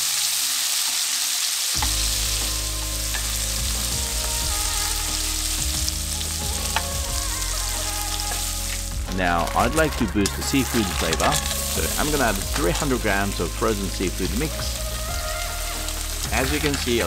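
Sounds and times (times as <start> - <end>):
scallops sizzling in butter: 0.0 - 17.0.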